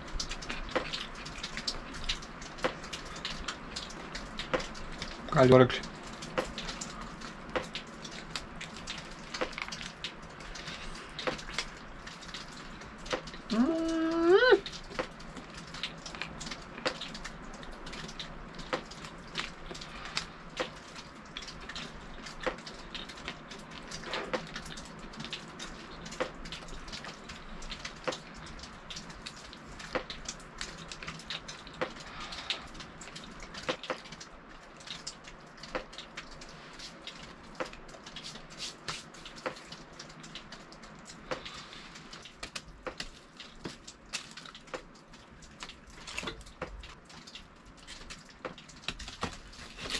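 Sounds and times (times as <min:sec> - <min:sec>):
irregular ticks and clicks: 0:00.0 - 0:49.9.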